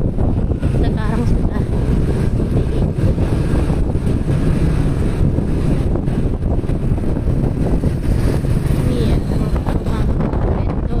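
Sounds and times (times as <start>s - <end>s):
road and engine noise: 0.0s - 11.0s
wind buffeting microphone: 0.0s - 11.0s.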